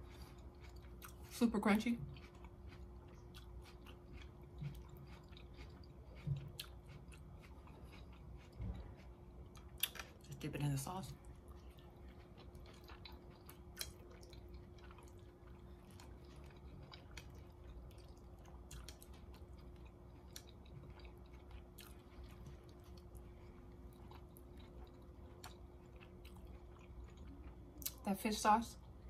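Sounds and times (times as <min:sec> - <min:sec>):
faint chewing: 0:00.0 - 0:28.0
faint steady hum: 0:00.0 - 0:29.0.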